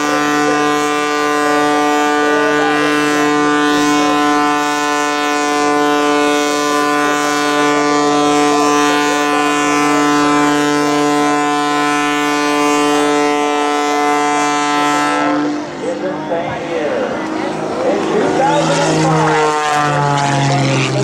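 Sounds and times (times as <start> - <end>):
propeller plane engine at high power: 0.0 - 21.0.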